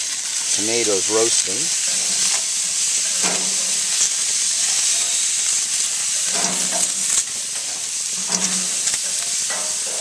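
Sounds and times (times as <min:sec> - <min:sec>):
vegetables sizzling on grill: 0:00.0 - 0:10.0.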